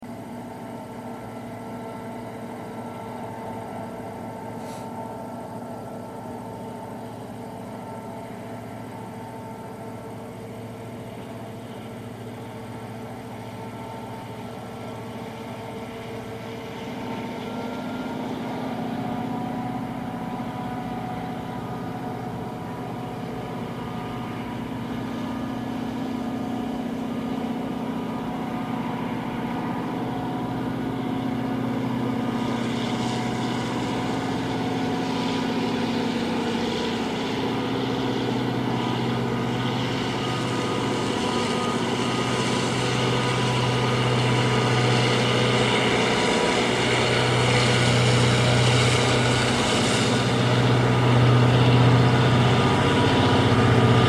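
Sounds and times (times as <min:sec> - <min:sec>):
train hiss and rumble: 0:00.0 - 0:54.0
train motor hum: 0:00.0 - 0:54.0.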